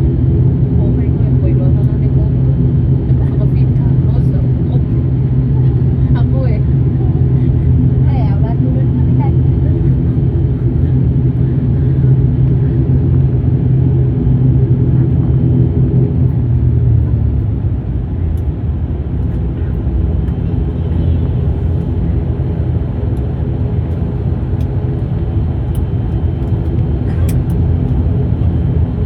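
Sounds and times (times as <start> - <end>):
propeller aircraft engines droning: 0.0 - 29.0.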